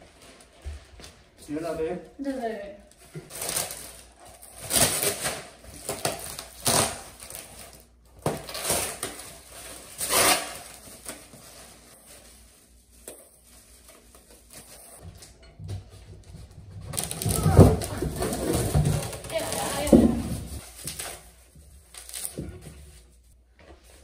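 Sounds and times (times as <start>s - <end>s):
plastic wrap crinkling and rustling: 0.0s - 15.4s, 16.8s - 24.0s.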